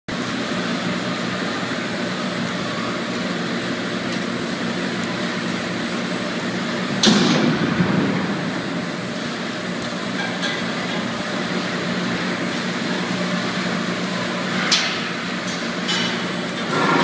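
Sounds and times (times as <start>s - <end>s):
conveyor and machinery noise: 0.1s - 17.0s.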